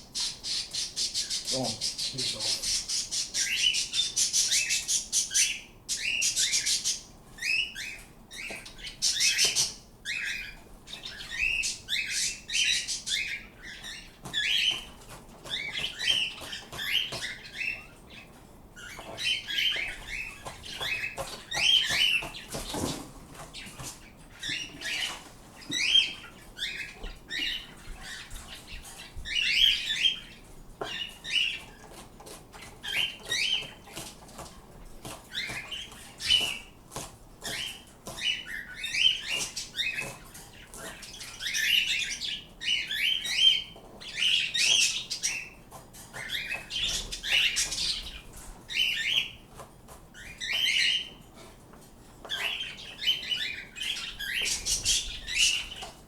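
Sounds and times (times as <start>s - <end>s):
pet birds chirping and squawking: 0.0s - 56.0s.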